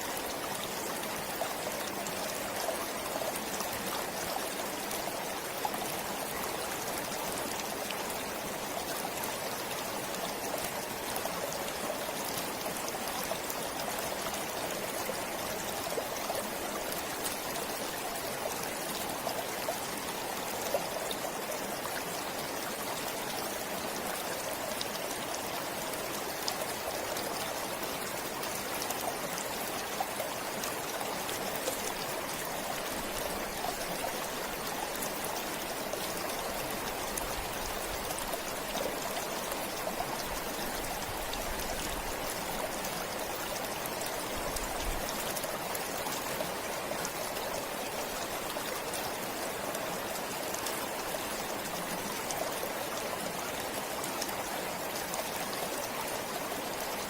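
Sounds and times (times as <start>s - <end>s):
small splashes and trickles: 0.0s - 57.0s
stream water rushing: 0.0s - 57.0s.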